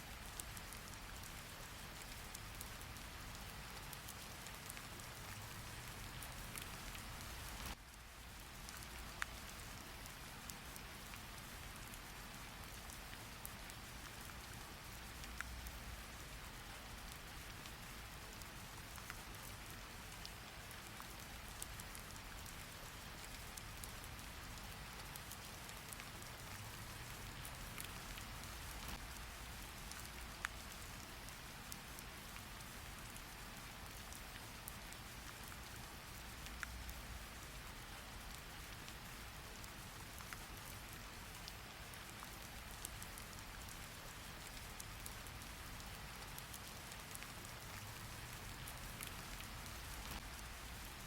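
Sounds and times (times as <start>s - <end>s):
steady rain hiss: 0.0s - 51.0s.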